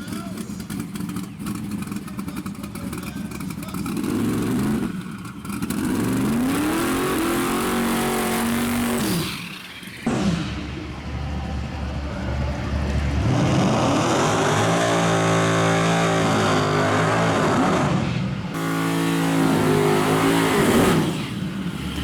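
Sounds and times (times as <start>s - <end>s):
race car engine revving: 0.3s - 22.0s.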